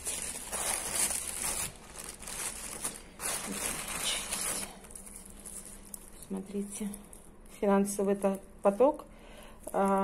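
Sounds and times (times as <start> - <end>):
plastic bags crinkling: 0.0 - 8.8, 9.6 - 10.0.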